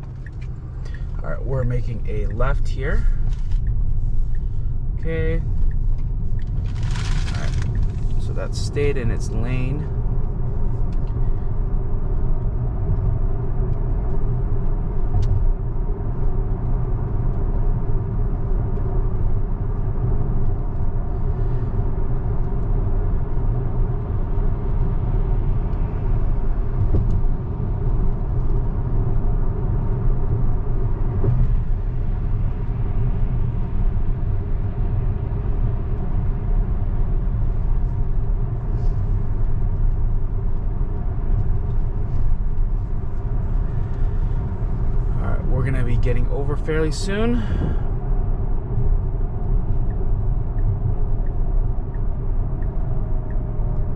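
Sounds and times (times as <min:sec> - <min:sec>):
road and tyre rumble: 0:00.0 - 0:53.9.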